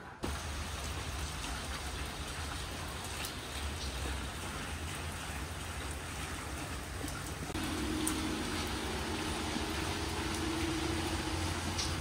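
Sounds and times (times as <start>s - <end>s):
rain falling: 0.2s - 12.0s.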